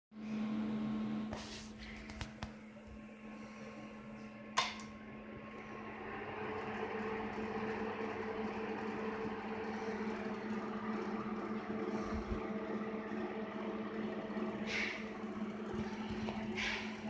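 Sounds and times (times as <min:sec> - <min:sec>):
electrical hum: 0:00.2 - 0:17.0
fan whir: 0:00.2 - 0:17.0.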